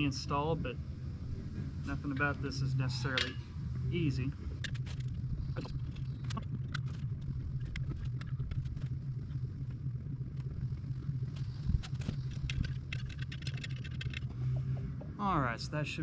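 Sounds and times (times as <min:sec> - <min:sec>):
steady low hum: 0:00.0 - 0:16.0
tire clicks and scrapes: 0:00.8 - 0:15.2.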